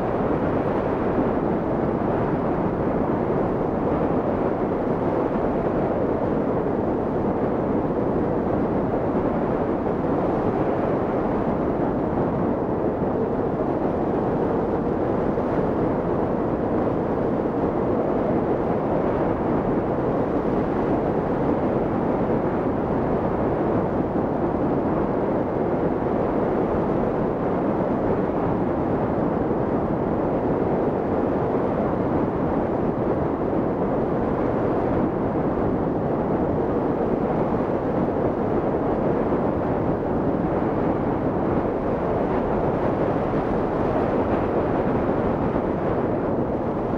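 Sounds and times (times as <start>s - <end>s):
wind rushing on microphone: 0.0s - 46.9s.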